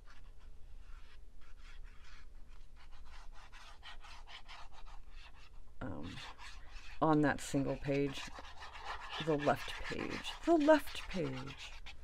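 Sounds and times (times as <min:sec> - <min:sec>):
glue bottle tip scratching paper: 0:00.0 - 0:12.0.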